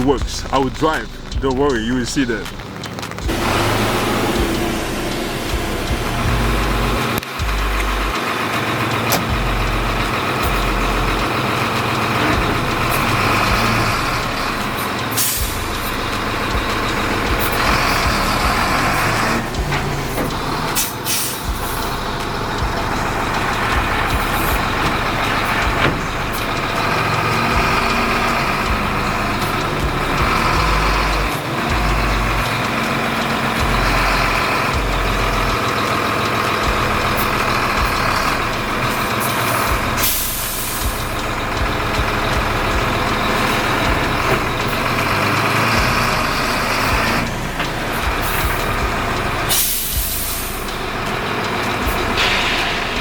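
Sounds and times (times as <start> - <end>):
air hissing: 0.0 - 53.0
diesel truck engine running: 0.0 - 53.0.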